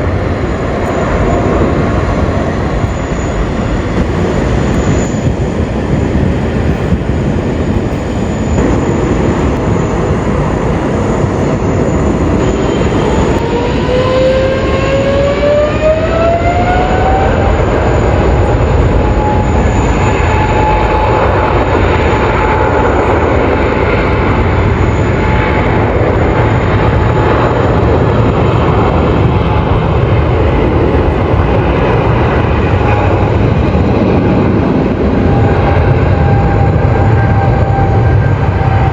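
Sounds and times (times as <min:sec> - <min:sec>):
jet engine whine rising: 0:00.0 - 0:38.9
jet engines rumbling: 0:00.0 - 0:38.9.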